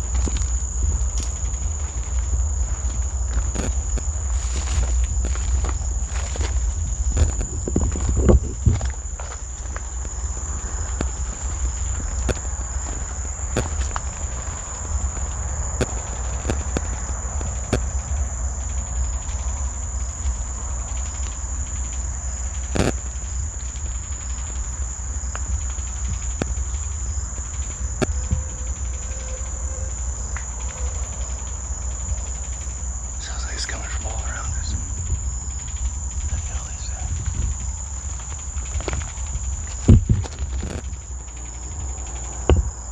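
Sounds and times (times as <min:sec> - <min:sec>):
insect chorus: 0:00.0 - 0:42.9.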